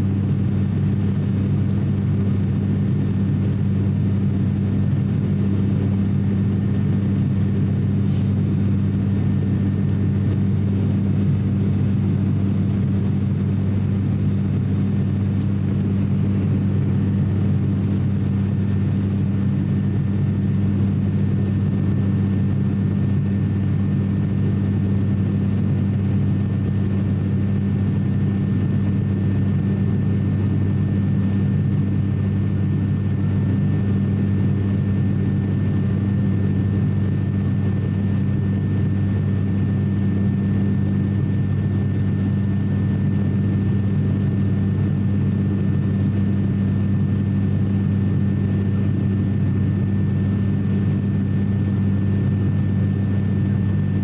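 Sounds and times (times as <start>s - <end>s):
propeller drone: 0.0s - 54.0s.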